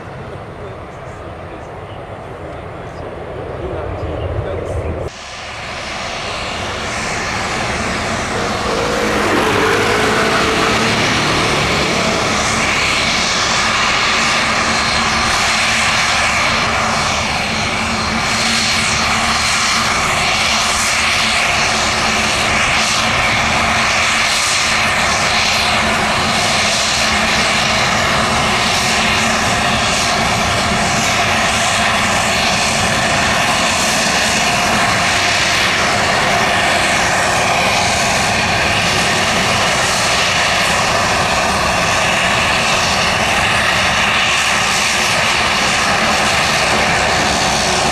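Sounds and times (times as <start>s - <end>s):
turboprop engines roaring: 0.0s - 47.9s.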